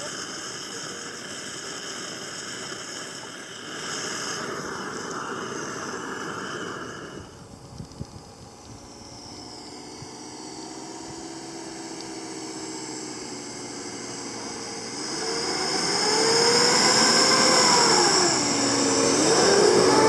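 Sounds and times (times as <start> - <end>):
gas torch hissing: 0.0 - 8.8, 11.0 - 20.0.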